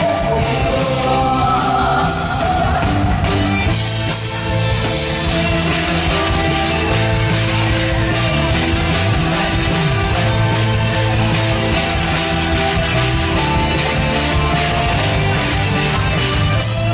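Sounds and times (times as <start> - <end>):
drum kit: 0.0 - 16.9
electric guitar: 0.0 - 16.9
live band playing rock ballad: 0.0 - 16.9.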